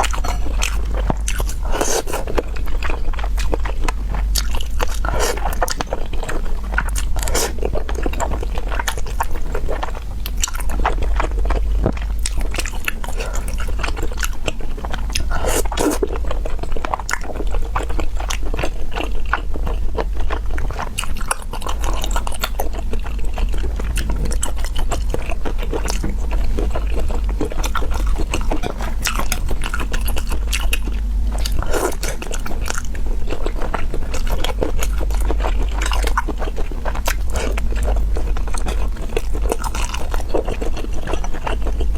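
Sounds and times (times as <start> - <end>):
chewing meat with wet clicks: 0.0 - 41.9
steady low hum: 0.0 - 41.9.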